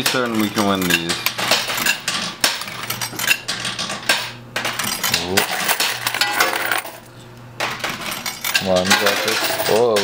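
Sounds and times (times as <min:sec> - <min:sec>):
coins clinking in a coin pusher: 0:00.0 - 0:10.0.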